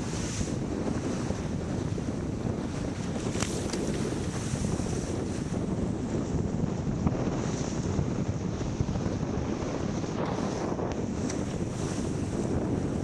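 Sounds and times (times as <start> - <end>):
rushing water and waves: 0.0 - 13.0
wind buffeting microphone: 0.0 - 13.0.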